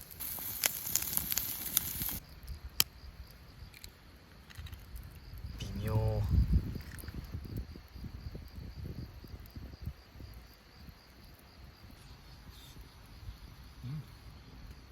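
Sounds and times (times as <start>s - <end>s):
cricket chirping: 0.0s - 14.9s.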